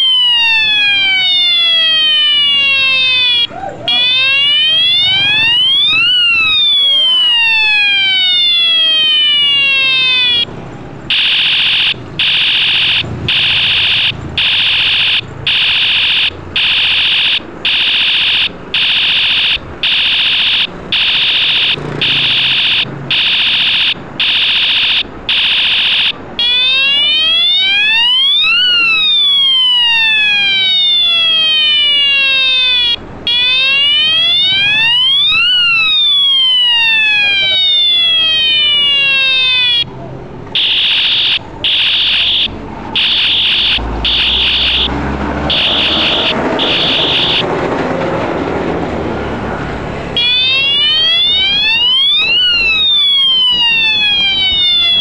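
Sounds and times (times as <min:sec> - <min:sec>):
bicycle siren: 0:00.0 - 0:10.5, 0:11.1 - 0:39.9, 0:40.5 - 0:47.5, 0:50.2 - 0:55.0.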